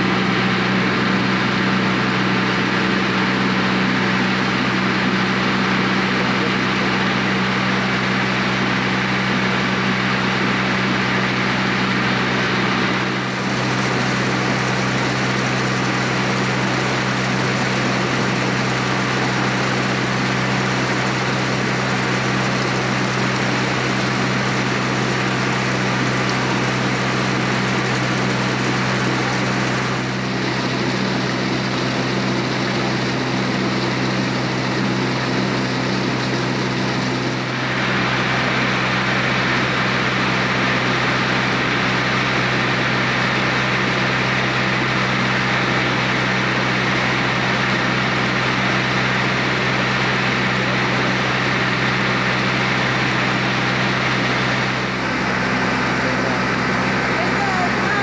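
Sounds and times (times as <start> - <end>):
boat engine droning: 0.0 - 58.0
water churning along hull: 0.0 - 58.0.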